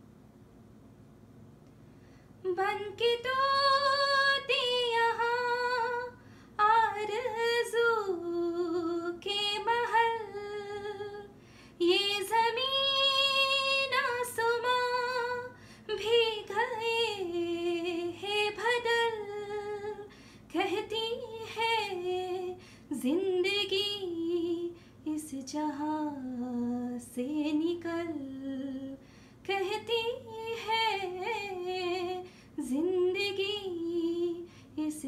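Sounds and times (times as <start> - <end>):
woman singing slow melody: 2.4 - 35.0.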